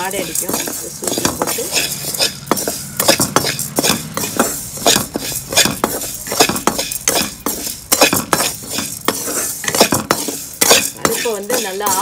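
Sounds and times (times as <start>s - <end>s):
lentils rattling in pan: 0.0s - 12.0s
spatula scraping metal pan: 0.0s - 12.0s.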